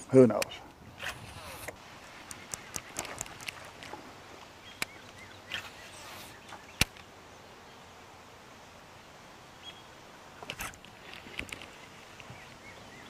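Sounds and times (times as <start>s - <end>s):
open-water ambience: 0.0s - 13.0s.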